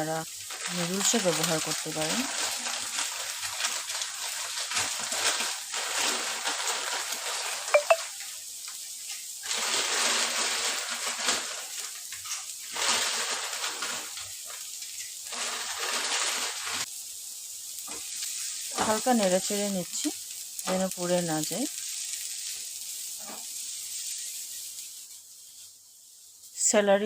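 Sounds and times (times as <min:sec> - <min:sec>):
food hissing and bubbling: 0:00.0 - 0:26.7.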